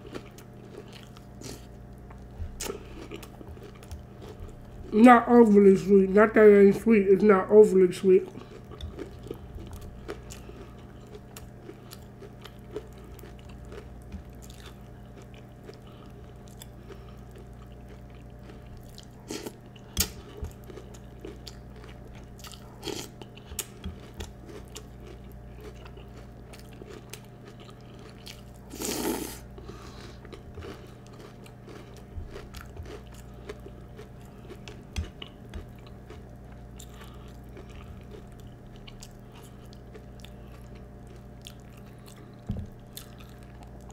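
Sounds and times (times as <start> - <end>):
crunching and chewing cereal: 0.0 - 5.0, 8.2 - 43.9
steady low hum: 0.0 - 43.9.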